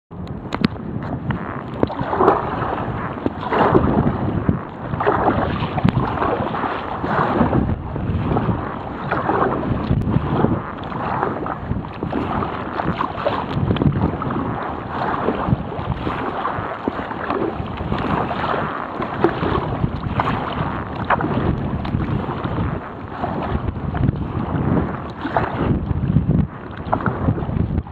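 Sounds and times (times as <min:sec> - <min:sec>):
wind buffeting microphone: 0:00.1 - 0:27.9
water sloshing and splashing: 0:00.2 - 0:27.9.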